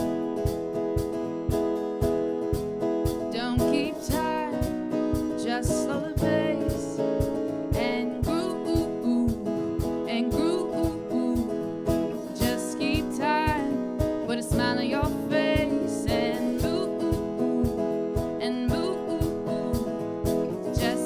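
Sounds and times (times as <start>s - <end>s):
drum kit beat: 0.0s - 21.0s
strummed acoustic guitar: 0.0s - 21.0s
person singing: 3.3s - 21.0s.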